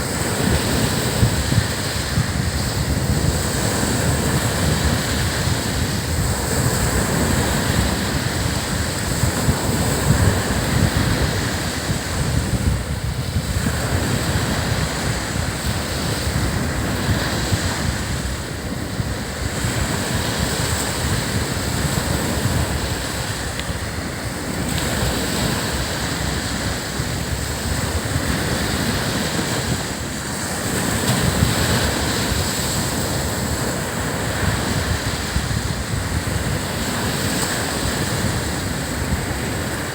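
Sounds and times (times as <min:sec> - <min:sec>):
surf washing up a beach: 0:00.0 - 0:39.9
wind rumbling on microphone: 0:00.0 - 0:39.9.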